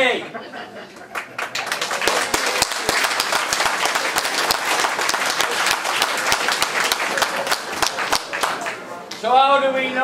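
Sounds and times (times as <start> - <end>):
crowd clapping: 1.0 - 9.2.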